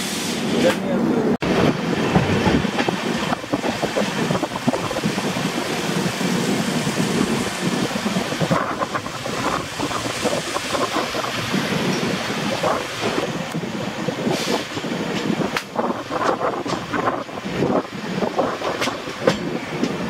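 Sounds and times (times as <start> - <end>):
train wheels rumbling and clattering: 0.0 - 20.0.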